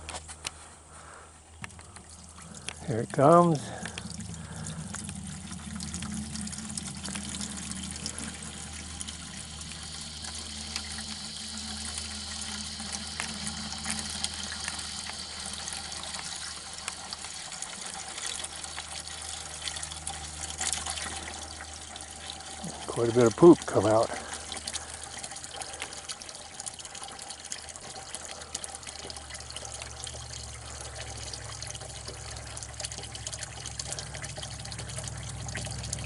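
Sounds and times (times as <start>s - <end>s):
low hum: 0.0s - 36.0s
water pouring into a bucket: 1.6s - 36.0s.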